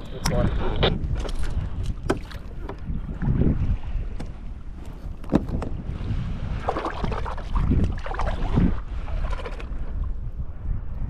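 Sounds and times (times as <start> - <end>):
water splashing against kayak: 0.0 - 10.6
wind buffeting microphone: 0.0 - 11.0.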